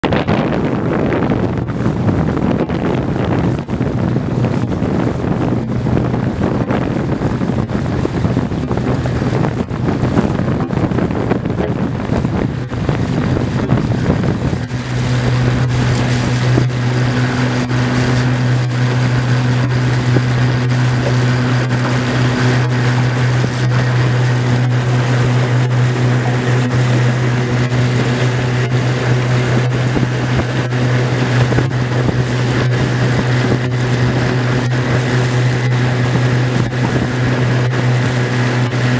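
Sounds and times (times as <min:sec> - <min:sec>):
outboard motor droning: 0:00.0 - 0:38.9
wind buffeting microphone: 0:00.0 - 0:38.9.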